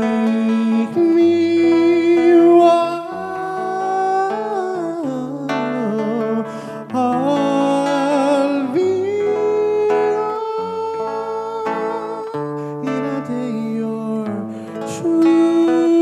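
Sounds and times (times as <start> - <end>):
acoustic guitar chords: 0.0 - 16.0
person singing long notes: 0.0 - 16.0.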